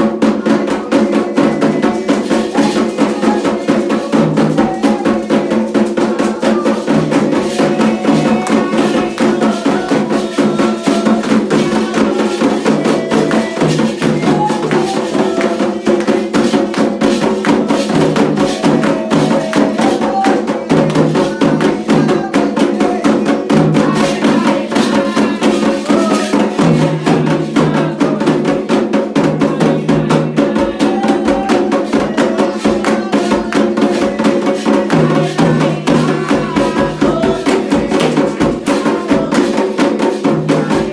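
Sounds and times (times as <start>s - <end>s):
fast hand drumming and percussion: 0.0s - 40.9s.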